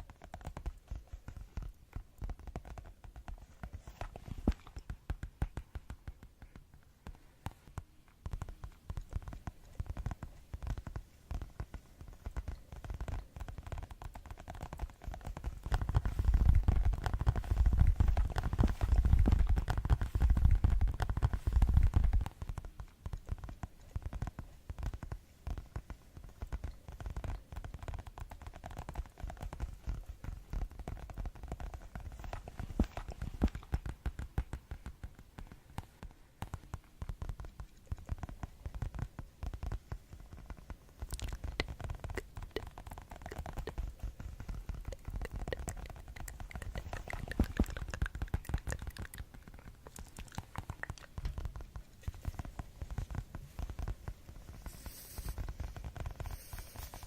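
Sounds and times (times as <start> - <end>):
rapid tapping: 0.0 - 57.0.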